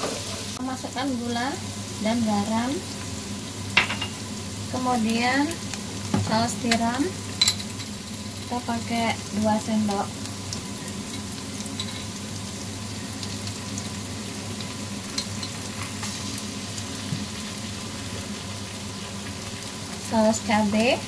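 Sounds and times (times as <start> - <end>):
onions sizzling in a wok: 0.0 - 21.0.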